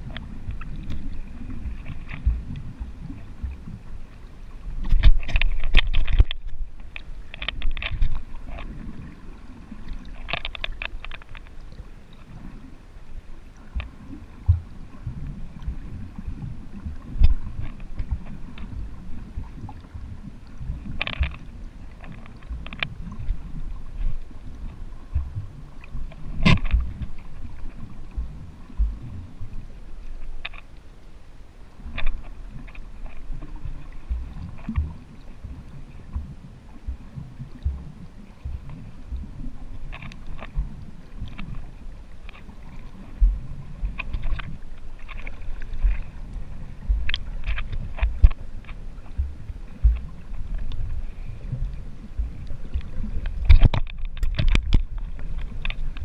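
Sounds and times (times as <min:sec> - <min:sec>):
crackling splashes: 0:00.0 - 0:56.0
underwater rumble of water: 0:00.0 - 0:56.0.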